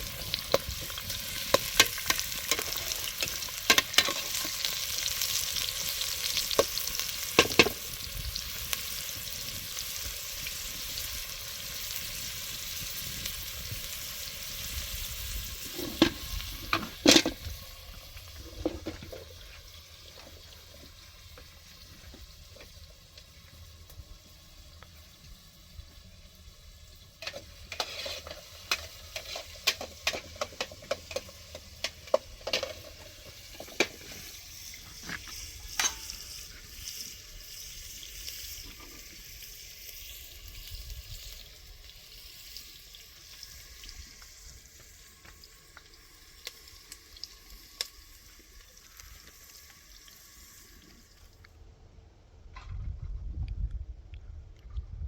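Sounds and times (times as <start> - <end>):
food sizzling in a pan: 0.0 - 51.4.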